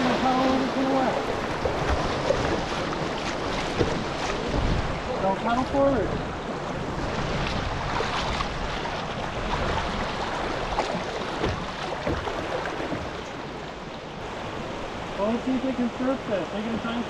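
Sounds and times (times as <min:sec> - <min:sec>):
paddle splashes: 0:00.0 - 0:17.0
river water rushing: 0:00.0 - 0:17.0.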